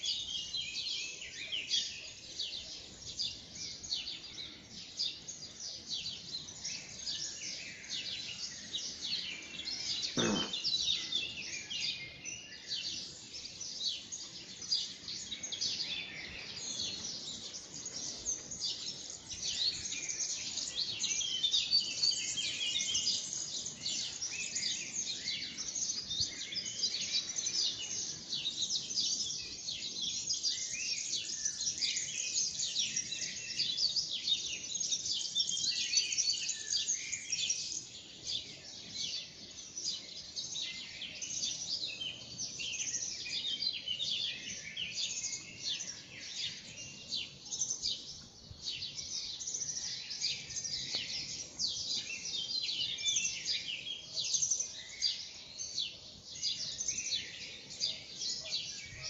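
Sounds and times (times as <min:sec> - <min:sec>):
small birds chirping and singing: 0:00.0 - 0:59.0.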